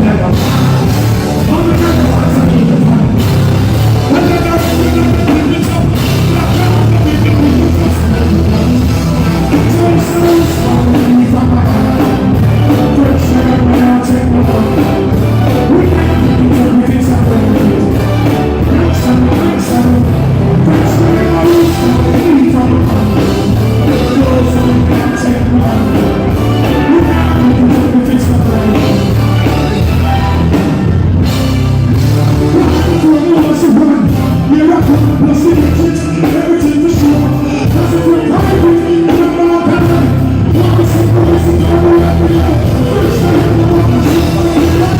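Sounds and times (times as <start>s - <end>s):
live band music: 0.0s - 44.9s
person singing: 0.0s - 44.9s.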